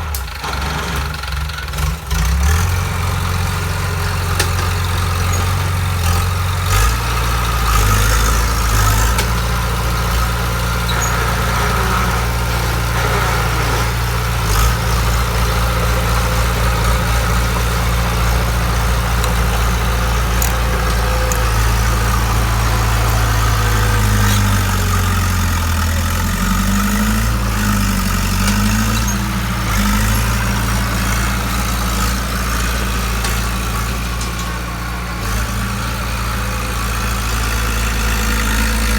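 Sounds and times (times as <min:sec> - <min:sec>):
bulldozer diesel engine idling: 0:00.0 - 0:38.9.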